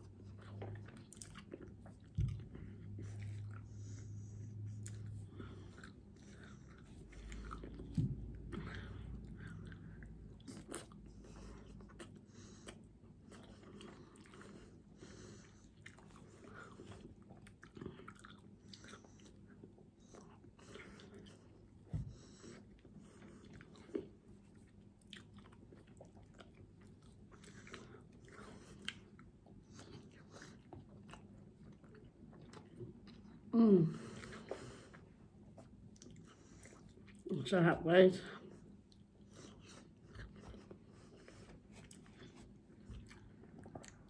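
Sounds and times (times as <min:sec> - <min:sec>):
wet chewing and lip smacks: 0:00.0 - 0:33.5, 0:34.1 - 0:37.3, 0:38.5 - 0:44.0.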